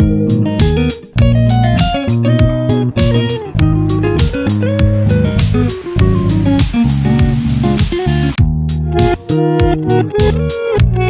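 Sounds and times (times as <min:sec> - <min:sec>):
guitar-led band music: 0:00.0 - 0:11.0.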